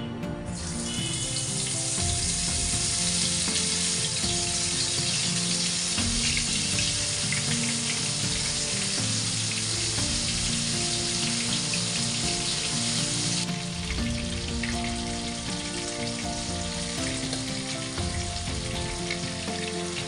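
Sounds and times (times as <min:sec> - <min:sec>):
background music: 0:00.0 - 0:20.0
food sizzling in oil: 0:00.4 - 0:20.0.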